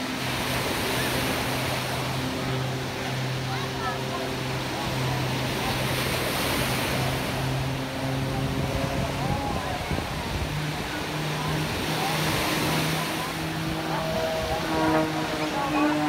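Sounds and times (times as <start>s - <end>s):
crowd noise: 0.0s - 16.0s
propeller plane engine droning: 0.0s - 16.0s.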